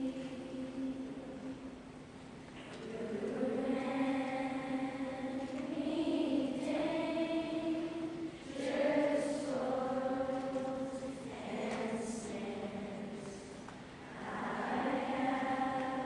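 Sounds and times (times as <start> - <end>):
chorus singing long notes: 2.8 - 16.0.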